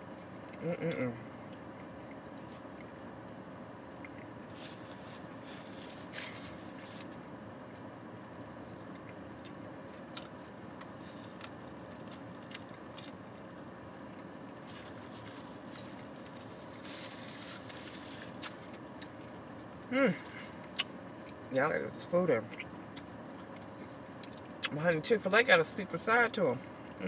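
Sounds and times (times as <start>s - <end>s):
person chewing: 0.0s - 21.5s, 22.5s - 24.8s
steady hum inside a car: 0.0s - 27.0s.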